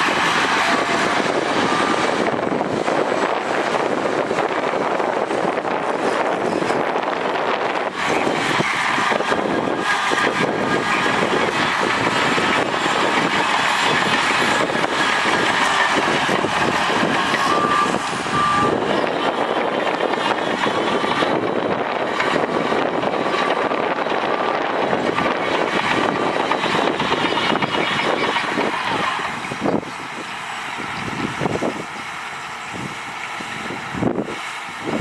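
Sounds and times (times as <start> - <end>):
diesel machinery engine and tracks: 0.0 - 35.0.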